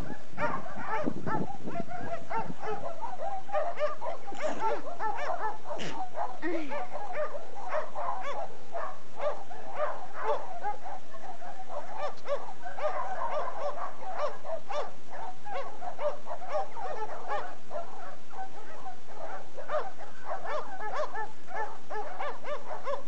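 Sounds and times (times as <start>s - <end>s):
many dogs barking: 0.0s - 23.0s.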